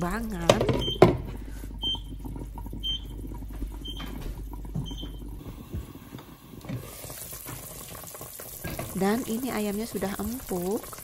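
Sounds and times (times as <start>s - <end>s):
pot simmering: 0.0s - 11.0s.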